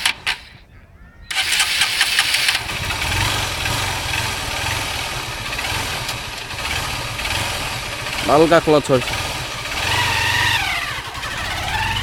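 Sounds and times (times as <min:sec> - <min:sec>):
motorcycle engine idling: 0:01.3 - 0:12.0.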